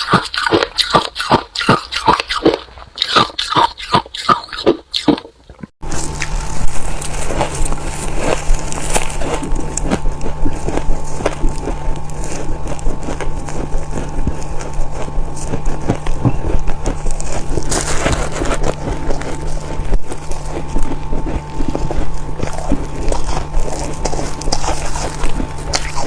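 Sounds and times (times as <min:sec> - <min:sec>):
frost being chewed: 0:00.0 - 0:26.0
low hum: 0:00.0 - 0:26.0.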